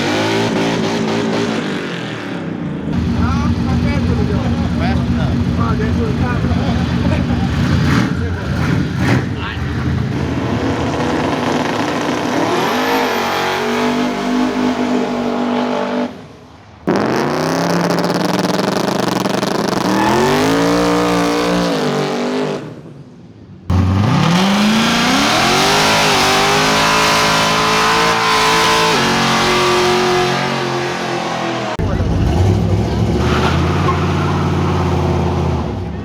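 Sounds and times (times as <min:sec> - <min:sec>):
car engine revving: 0:00.0 - 0:22.8, 0:23.7 - 0:36.0.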